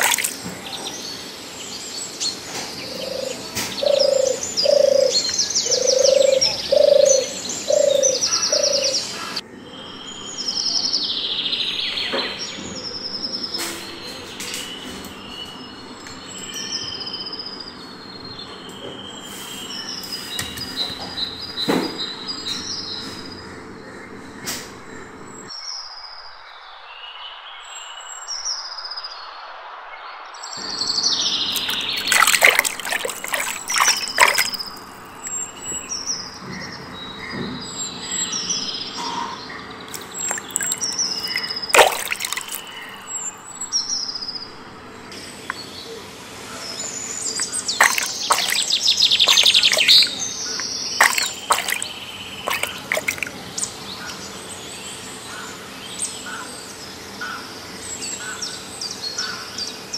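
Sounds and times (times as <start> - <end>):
birds chirping: 0.0 - 23.4, 30.6 - 46.0, 46.6 - 56.2.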